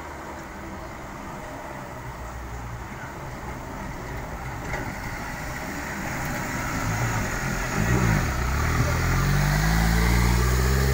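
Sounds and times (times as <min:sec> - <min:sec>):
truck engine: 0:00.2 - 0:10.9.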